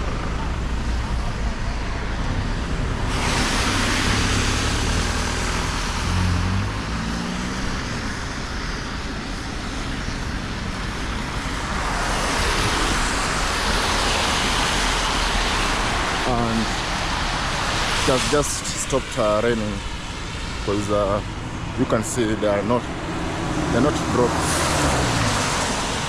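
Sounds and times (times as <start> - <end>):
tyres hissing on wet road: 0.0 - 26.0
vehicle engines running: 0.0 - 26.0.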